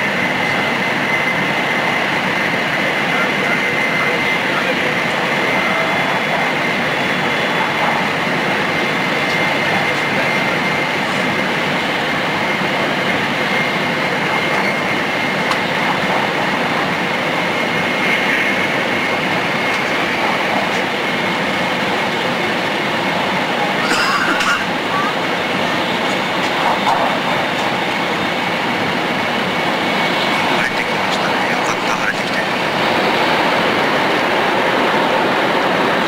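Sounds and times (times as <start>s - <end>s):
train ride rushing noise: 0.0s - 36.0s.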